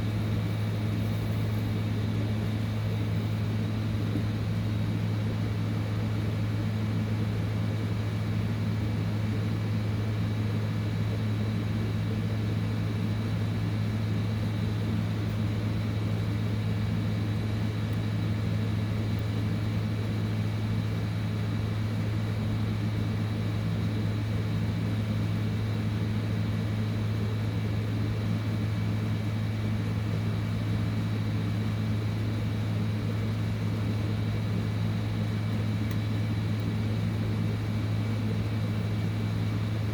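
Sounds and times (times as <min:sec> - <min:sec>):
faint steady whine: 0:00.0 - 0:39.9.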